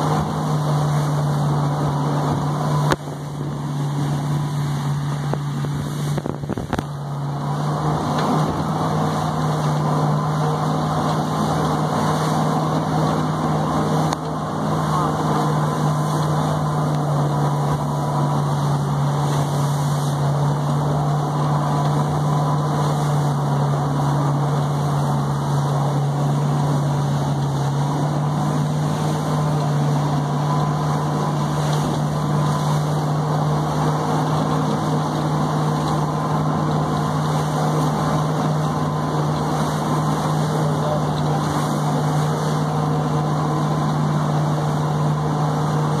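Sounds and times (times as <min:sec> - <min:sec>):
churning wake water: 0:00.0 - 0:46.0
motorboat engine droning: 0:00.0 - 0:46.0
wind: 0:00.0 - 0:46.0.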